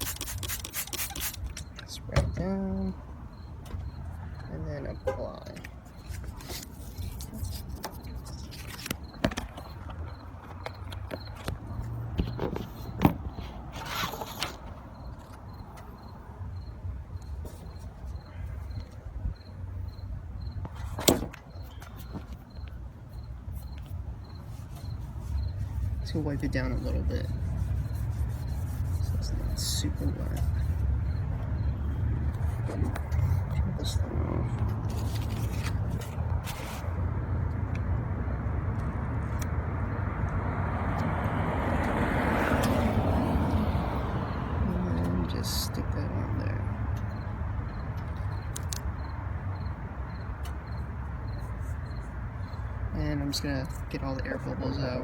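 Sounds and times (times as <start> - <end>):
cricket chirping: 0.7 - 54.8.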